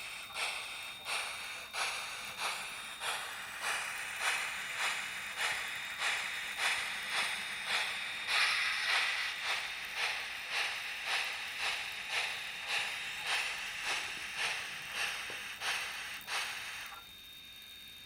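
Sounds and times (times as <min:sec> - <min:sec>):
model steam locomotive chuffs: 0:00.0 - 0:18.0.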